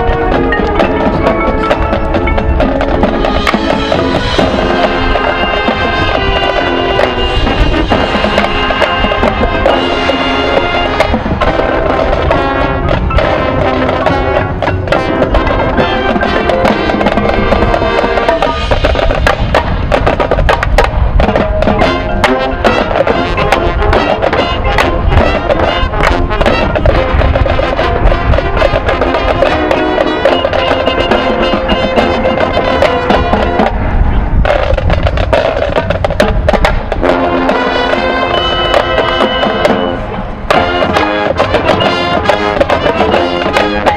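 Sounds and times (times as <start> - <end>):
drumline and percussion: 0.0 - 43.9
marching band brass: 0.0 - 43.9.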